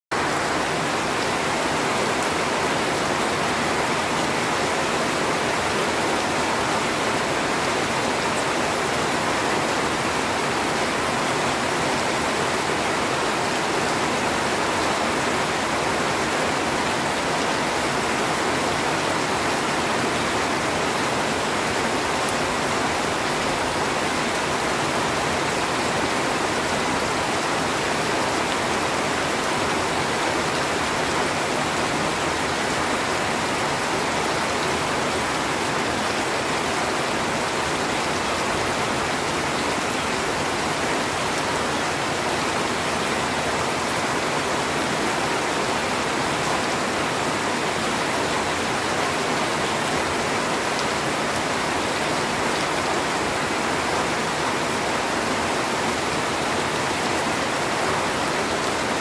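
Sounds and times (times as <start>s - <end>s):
heavy rain on leafy trees: 0.0s - 59.0s.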